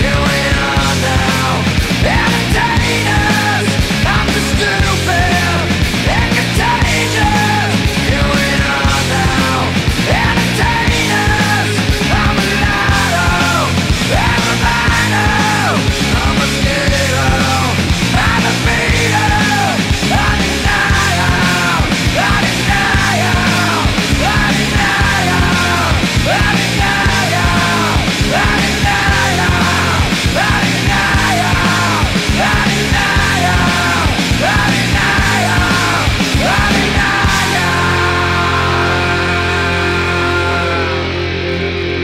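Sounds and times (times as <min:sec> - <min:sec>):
distorted guitars: 0:00.0 - 0:42.0
drums: 0:00.0 - 0:42.0
yelled vocals: 0:00.0 - 0:42.0.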